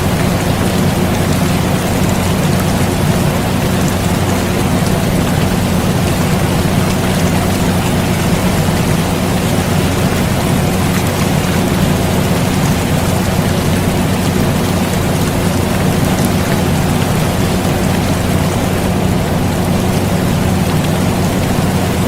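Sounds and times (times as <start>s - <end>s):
air conditioner humming: 0.0s - 22.0s
steady rain: 0.0s - 22.0s.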